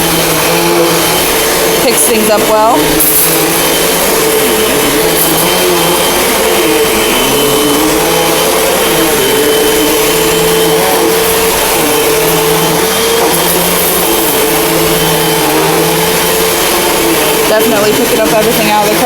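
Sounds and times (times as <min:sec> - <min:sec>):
vacuum cleaner on carpet: 0:00.0 - 0:19.0.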